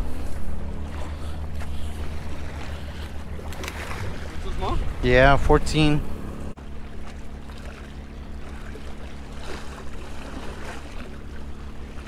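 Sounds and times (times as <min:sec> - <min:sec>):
steady low rumble: 0:00.0 - 0:12.0
water lapping and splashing: 0:00.0 - 0:12.0
faint splashes: 0:00.1 - 0:05.9, 0:06.7 - 0:12.0.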